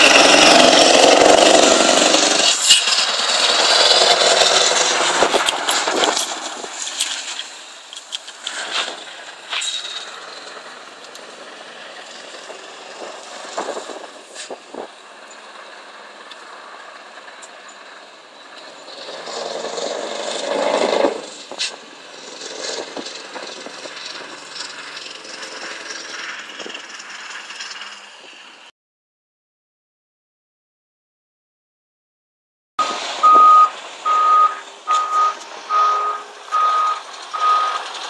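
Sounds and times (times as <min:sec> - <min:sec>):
truck engine droning: 0:00.0 - 0:28.7, 0:32.8 - 0:38.0.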